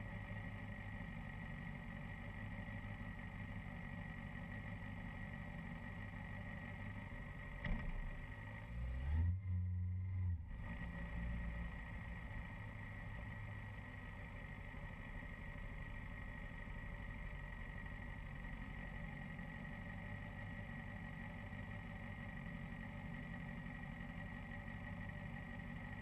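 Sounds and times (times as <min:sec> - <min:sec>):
muffled motorcycle engine idling: 0:00.0 - 0:08.8, 0:09.6 - 0:26.0.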